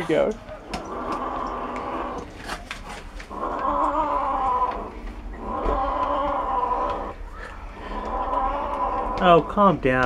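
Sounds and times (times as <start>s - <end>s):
cat growling: 0.0s - 2.6s, 3.3s - 9.6s.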